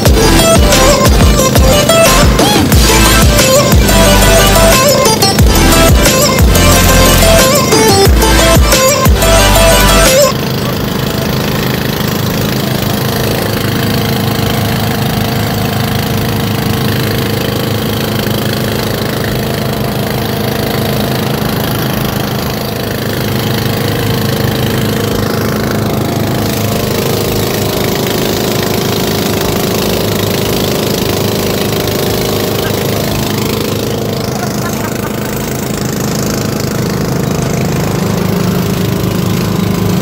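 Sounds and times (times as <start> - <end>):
boat engine running steadily: 0.0 - 40.0.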